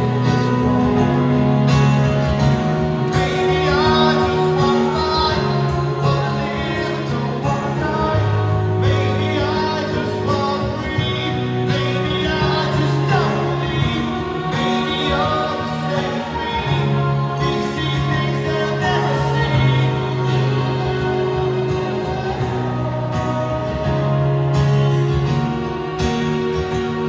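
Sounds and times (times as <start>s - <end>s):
live rock band playing: 0.0s - 27.0s
backing singers: 2.4s - 27.0s.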